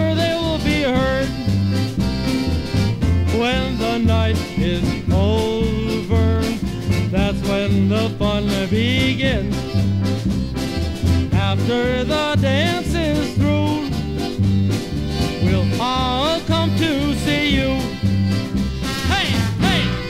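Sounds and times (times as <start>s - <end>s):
polka band on vinyl record: 0.0s - 20.0s.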